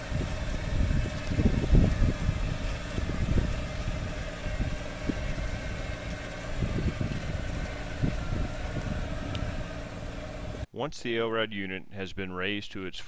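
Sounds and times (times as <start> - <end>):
wind rumbling on microphone: 0.0 - 10.6
diesel generator humming: 0.0 - 12.3.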